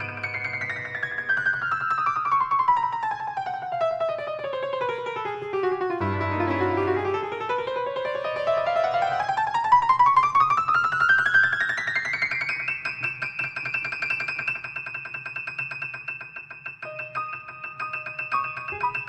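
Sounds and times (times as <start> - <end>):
fast piano playing: 0.0 - 19.0.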